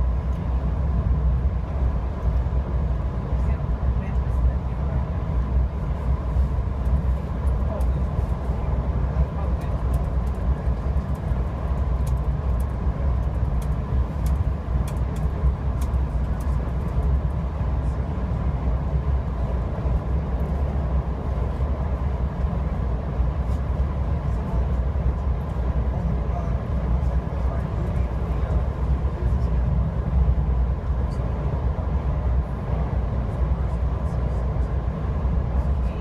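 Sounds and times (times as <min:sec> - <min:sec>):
train low rumble: 0:00.0 - 0:36.0.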